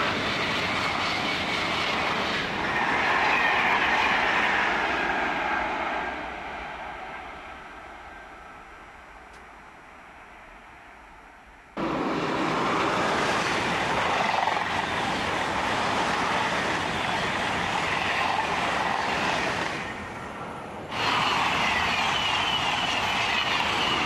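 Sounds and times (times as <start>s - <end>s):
distant approaching train: 0.0s - 24.0s
high-speed train passing: 0.0s - 24.0s.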